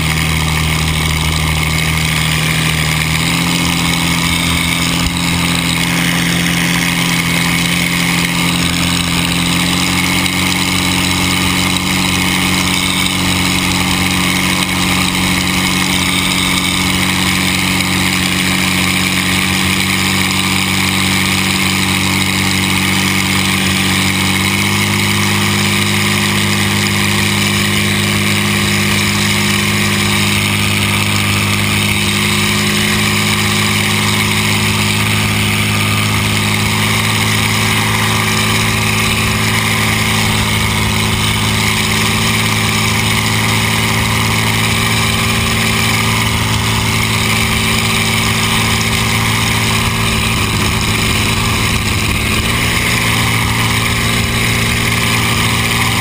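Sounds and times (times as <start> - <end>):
hydroplane engine running loud: 0.0 - 56.0.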